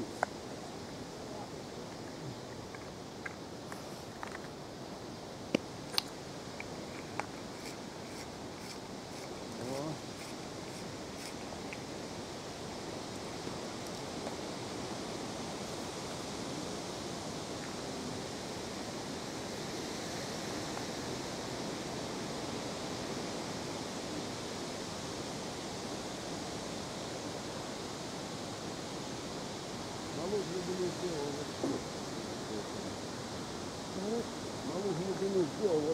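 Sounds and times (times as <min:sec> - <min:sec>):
steady outdoor hiss: 0:00.0 - 0:35.9.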